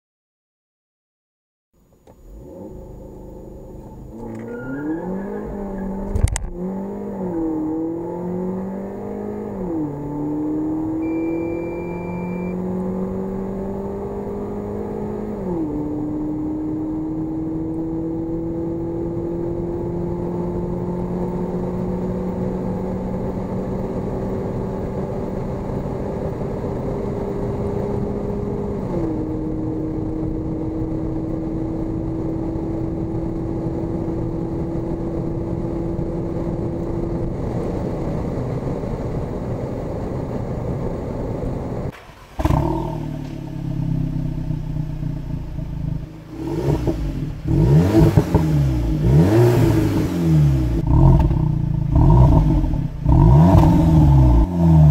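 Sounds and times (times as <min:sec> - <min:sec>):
car engine accelerating hard: 0:02.0 - 0:54.9.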